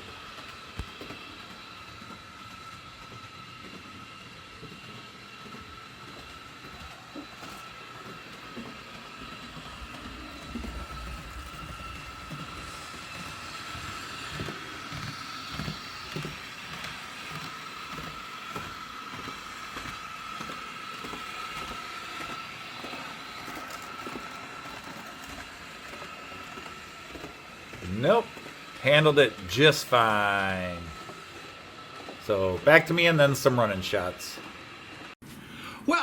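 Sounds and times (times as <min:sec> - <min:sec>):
model train motor whine: 0:00.0 - 0:35.2
wheels clicking on rails: 0:00.0 - 0:35.2.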